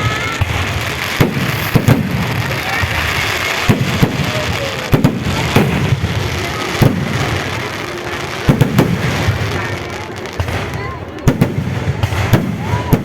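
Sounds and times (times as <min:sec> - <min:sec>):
continuous noisy din: 0:00.0 - 0:13.0
fireworks bangs: 0:00.0 - 0:13.0.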